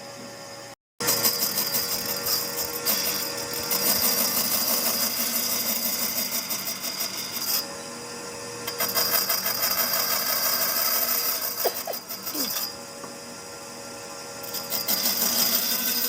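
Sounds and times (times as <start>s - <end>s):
power tool working wood: 1.0s - 7.7s, 8.6s - 13.1s, 13.7s - 16.0s.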